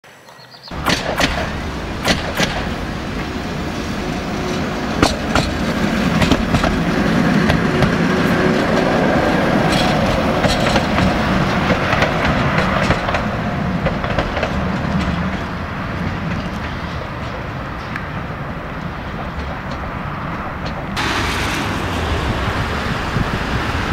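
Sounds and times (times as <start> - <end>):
tram motor whine: 0.1 - 23.9
tram wheels clicking over rail joints: 0.7 - 23.9.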